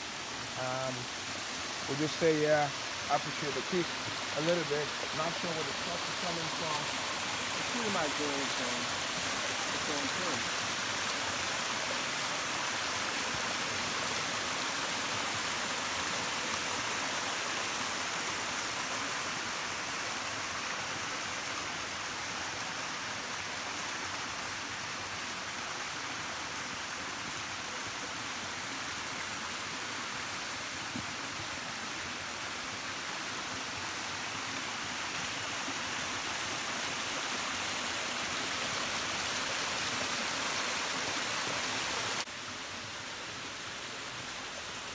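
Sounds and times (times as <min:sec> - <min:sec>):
creek water rushing over rocks: 0:00.0 - 0:44.9.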